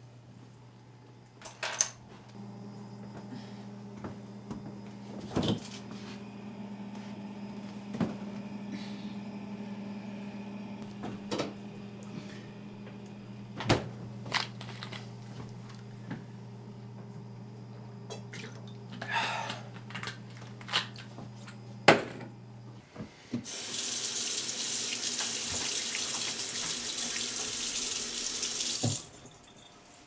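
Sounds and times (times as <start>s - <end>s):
low electrical hum: 0.0s - 25.5s.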